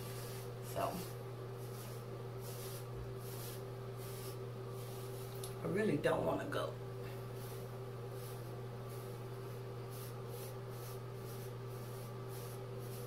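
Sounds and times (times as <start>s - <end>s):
hairbrush swishing through hair: 0.0s - 5.6s, 7.1s - 13.0s
steady low hum: 0.0s - 13.0s.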